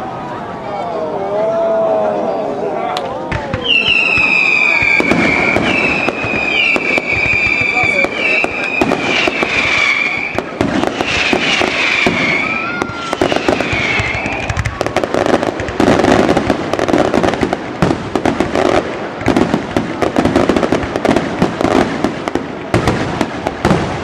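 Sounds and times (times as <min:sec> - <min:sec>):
whistling fireworks: 0:00.2 - 0:24.0
fireworks bangs and crackles: 0:03.0 - 0:24.0.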